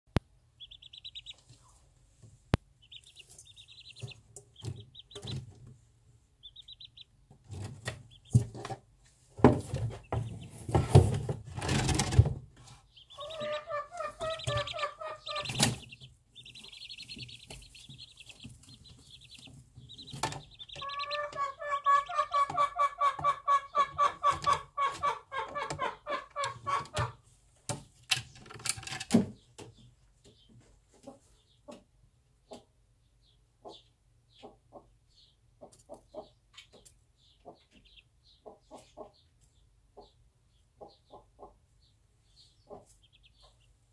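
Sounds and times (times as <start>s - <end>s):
chicks peeping: 0.1s - 28.1s, 29.2s - 43.9s
hen clucking: 0.5s - 27.3s, 33.6s - 43.9s.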